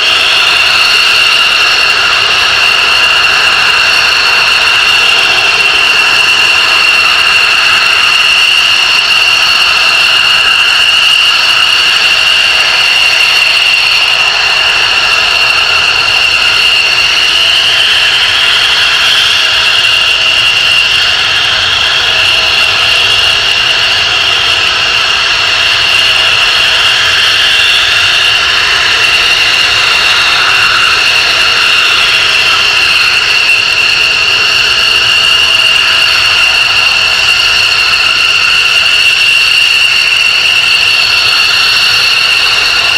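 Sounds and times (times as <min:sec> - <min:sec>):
jet engine whine: 0:00.0 - 0:42.9.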